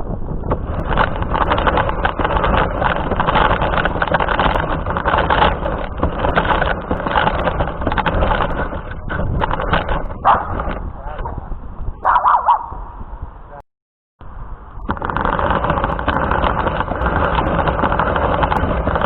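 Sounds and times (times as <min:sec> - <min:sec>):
radio-controlled car rushing noise: 0:00.0 - 0:12.4, 0:14.8 - 0:19.0.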